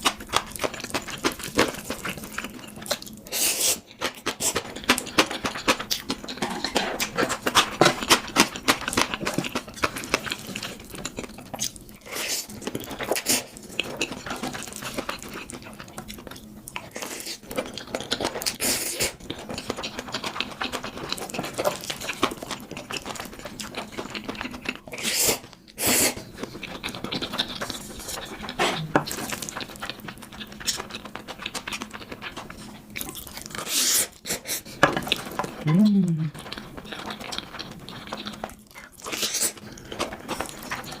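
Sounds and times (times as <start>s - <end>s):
wet chewing and mouth clicks: 0.0s - 41.0s.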